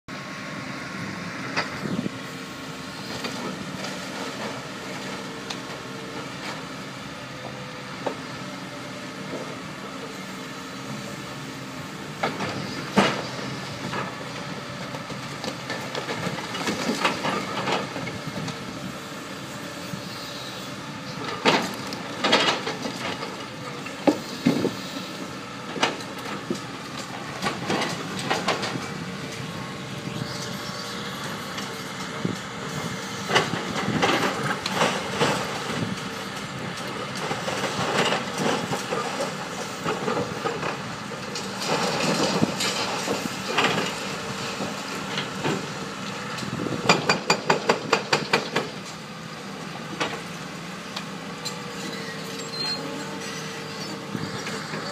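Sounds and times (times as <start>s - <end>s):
excavator diesel engine running: 0.1s - 54.9s.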